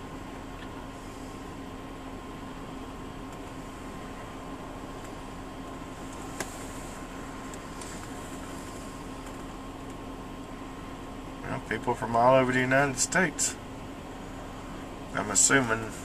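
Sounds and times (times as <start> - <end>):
vehicle hum inside cab: 0.0 - 16.0.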